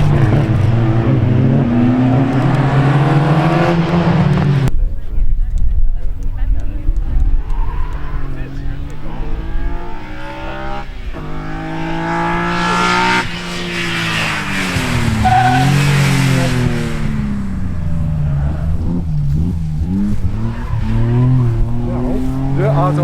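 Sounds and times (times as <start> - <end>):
car passing rushing noise: 0.0 - 4.7, 7.3 - 23.0
rally car engine accelerating: 0.0 - 4.7, 7.0 - 23.0.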